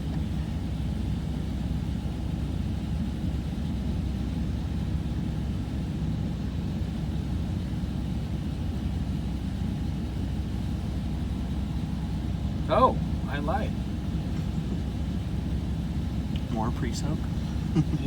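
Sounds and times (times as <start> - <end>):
automatic car wash rumbling: 0.0 - 18.0.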